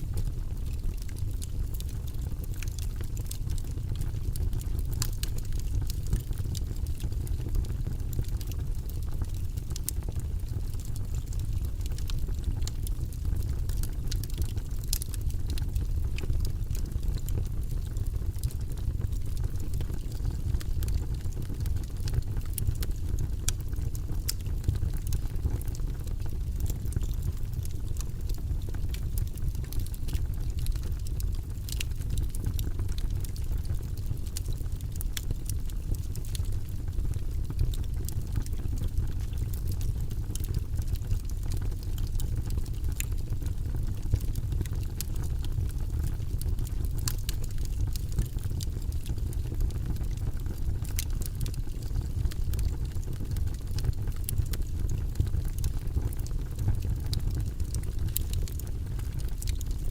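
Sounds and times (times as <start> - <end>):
burning logs crackling and popping: 0.0 - 59.9
low rumble of flames: 0.0 - 59.9.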